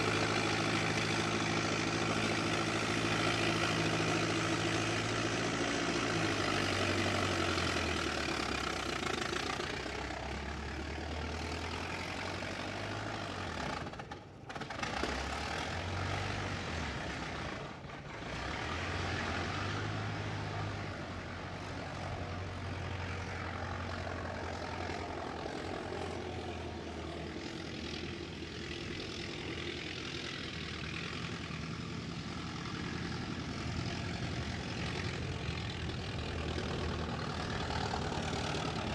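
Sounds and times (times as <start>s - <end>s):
car engine droning while driving: 0.0s - 38.9s.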